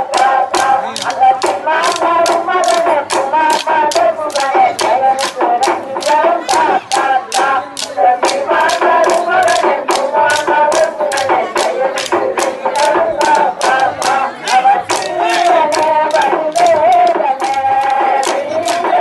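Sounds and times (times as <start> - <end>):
group singing folk song: 0.0 - 19.0
sharp stick beats: 0.0 - 19.0.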